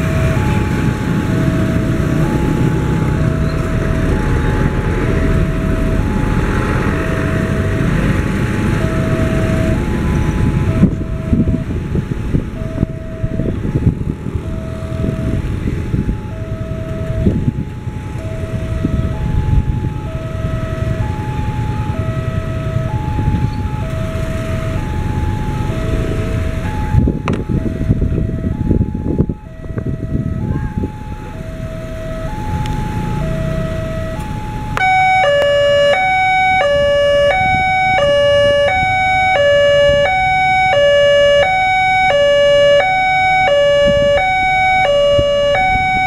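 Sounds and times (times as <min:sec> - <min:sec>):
level crossing alarm two-tone: 0:00.0 - 0:46.0.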